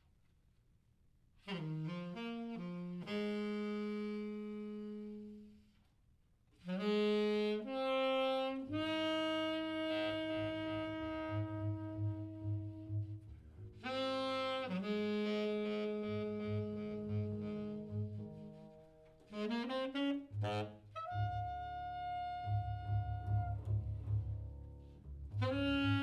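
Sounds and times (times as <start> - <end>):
saxophone playing: 1.4 - 5.8, 6.6 - 24.5, 25.3 - 26.0.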